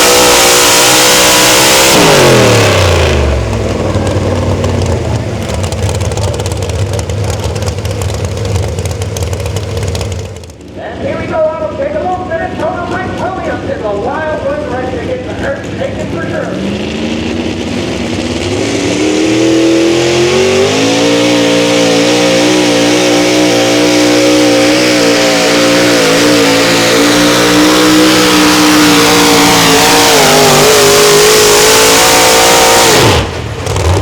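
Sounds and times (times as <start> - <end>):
engine at full throttle: 0.0 - 10.8, 14.5 - 34.0.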